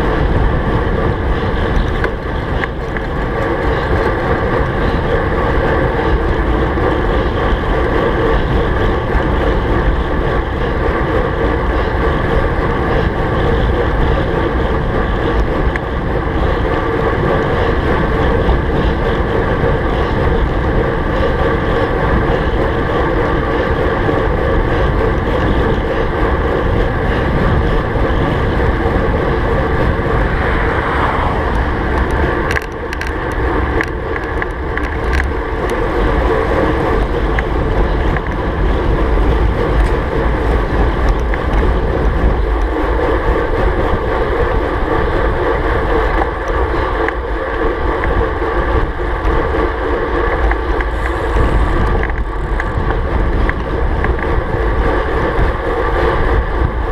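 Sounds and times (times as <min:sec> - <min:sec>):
tyres rumbling on asphalt: 0:00.0 - 0:56.9
wind buffeting microphone: 0:00.0 - 0:56.9.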